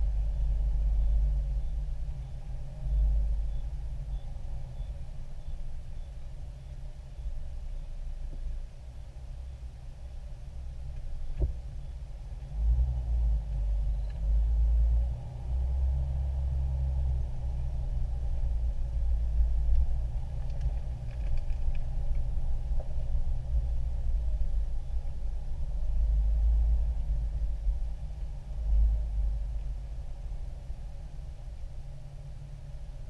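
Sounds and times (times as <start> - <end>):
vehicle engine and tyres rumbling: 0.0 - 33.0.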